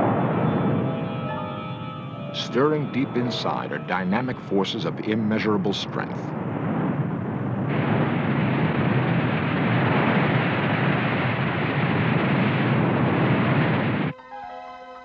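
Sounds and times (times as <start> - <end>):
loud rushing rumble: 0.0 - 14.1.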